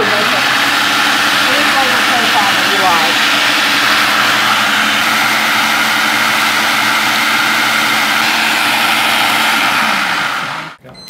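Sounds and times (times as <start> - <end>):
food processor motor running: 0.0 - 10.8.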